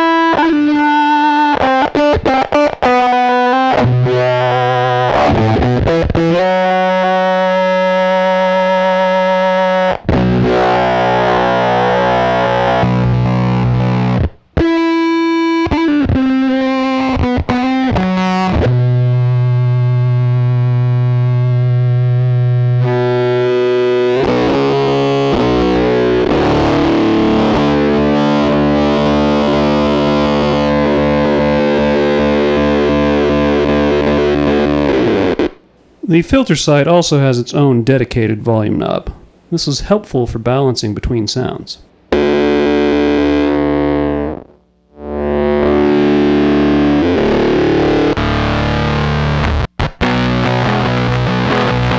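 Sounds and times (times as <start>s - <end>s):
distorted electric guitar filter sweeps: 0.0s - 36.4s, 40.8s - 51.9s.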